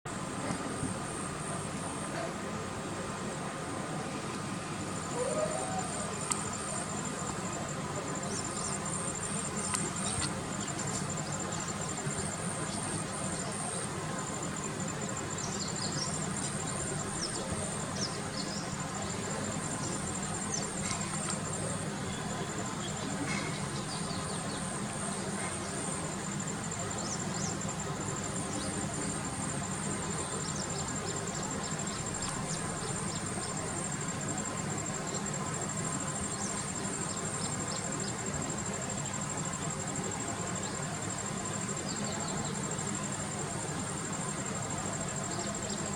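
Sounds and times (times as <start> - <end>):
insects chirping: 0.1 - 45.9
low background noise: 0.1 - 45.9.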